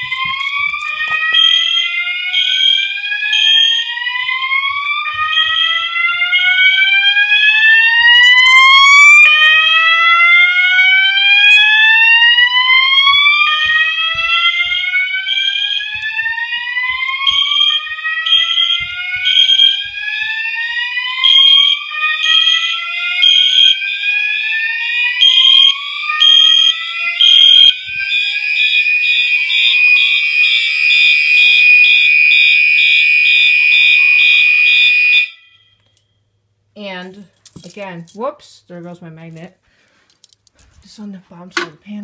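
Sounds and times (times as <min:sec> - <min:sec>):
fire alarm whoop sweeps: 0:00.0 - 0:35.7
pulsing alarm horn tone: 0:00.0 - 0:35.7
steady alarm tones: 0:00.0 - 0:36.0.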